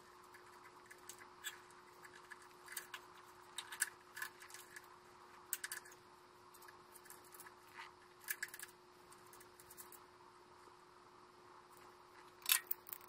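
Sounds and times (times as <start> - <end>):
wires and connectors clicking and rattling: 0.0 - 10.0, 11.7 - 13.0.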